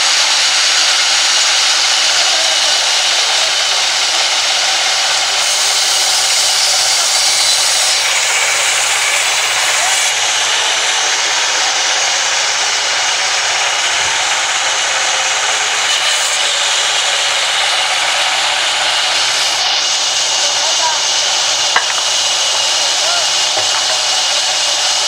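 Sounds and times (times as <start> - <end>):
band saw cutting log: 0.0 - 25.0.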